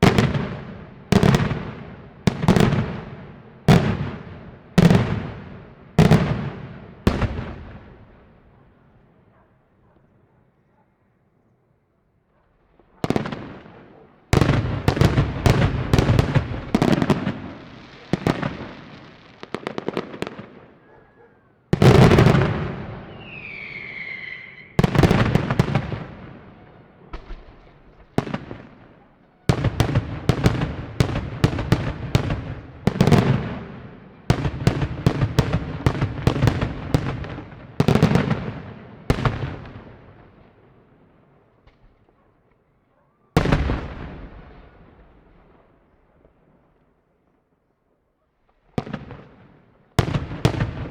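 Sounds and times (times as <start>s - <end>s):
firework bangs and crackling: 0.0s - 8.3s, 12.9s - 20.8s, 21.7s - 41.1s, 43.4s - 46.7s, 48.6s - 50.9s.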